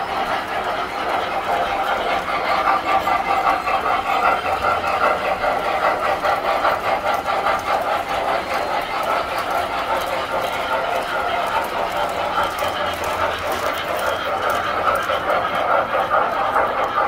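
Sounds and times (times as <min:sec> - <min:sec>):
toy trains clattering on track: 0:00.0 - 0:17.0.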